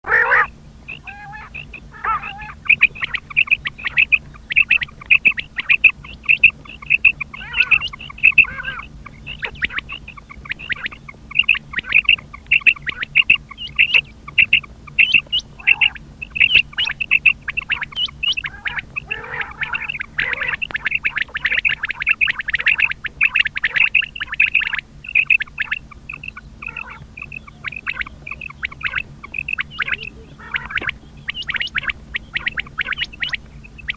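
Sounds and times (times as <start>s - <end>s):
quail calling: 0.0s - 33.9s.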